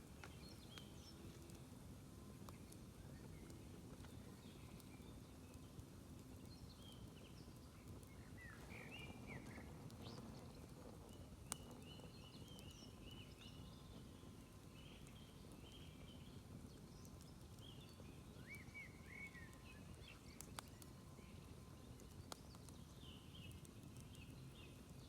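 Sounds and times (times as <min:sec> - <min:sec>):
small birds chirping: 0:00.0 - 0:01.7, 0:02.3 - 0:25.0
campfire crackle: 0:00.0 - 0:25.0.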